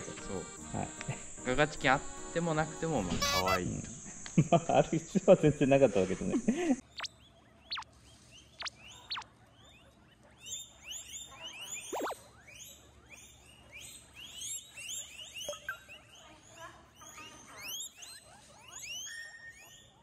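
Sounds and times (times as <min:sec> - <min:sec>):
guinea pigs squealing: 0:00.0 - 0:04.2, 0:06.8 - 0:20.0.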